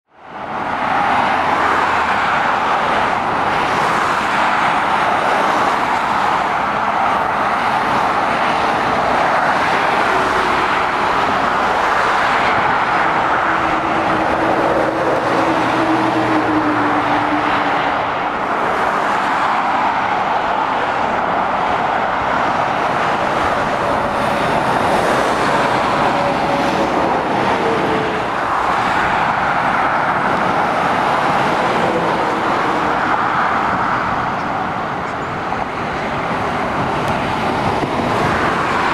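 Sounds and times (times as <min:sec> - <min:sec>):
road traffic rush: 0:00.0 - 0:38.9.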